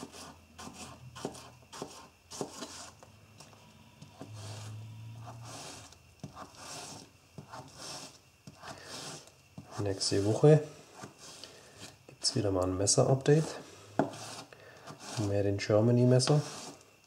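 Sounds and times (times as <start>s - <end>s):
knife scraping through apple: 0.0s - 3.0s, 4.0s - 16.9s.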